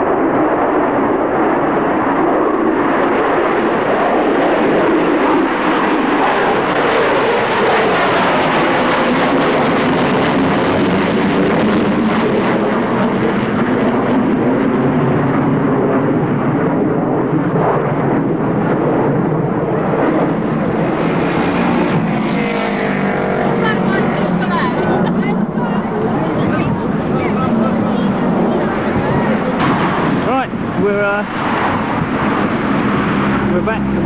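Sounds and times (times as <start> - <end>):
jet airliner engines roaring overhead: 0.0 - 34.0.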